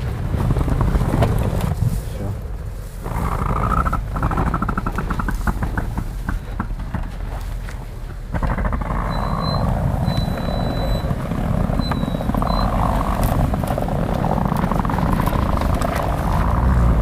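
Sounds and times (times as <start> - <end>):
vehicle engine running hard: 0.0 - 17.0.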